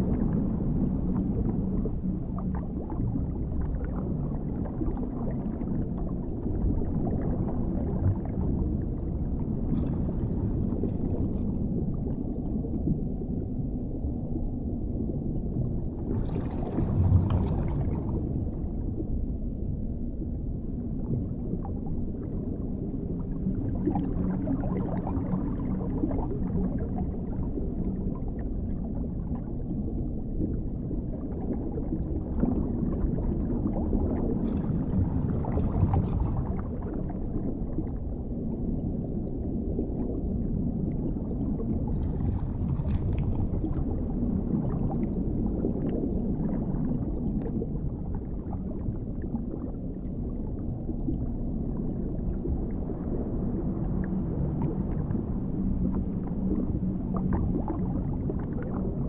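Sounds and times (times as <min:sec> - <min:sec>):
faint bubbling and crackling: 0:00.0 - 0:59.0
muffled underwater rumble: 0:00.0 - 0:59.0.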